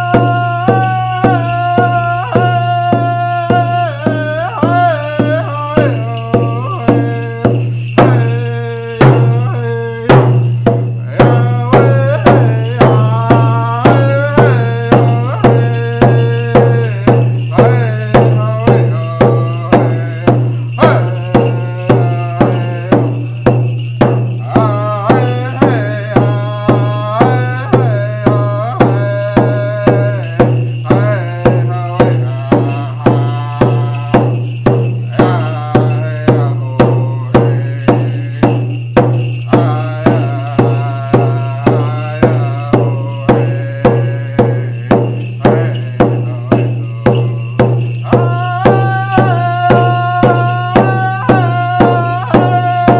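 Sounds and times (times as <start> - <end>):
hand drum beating: 0.0 - 52.9
man singing: 0.0 - 52.9.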